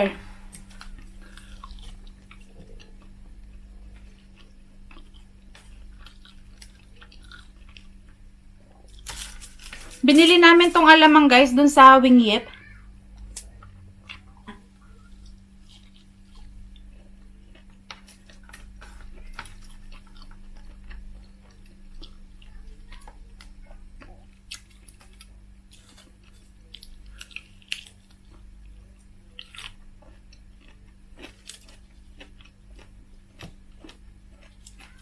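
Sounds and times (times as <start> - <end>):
faint steady hum: 0.0 - 35.0
chewing and biting food: 0.6 - 10.0, 13.1 - 35.0.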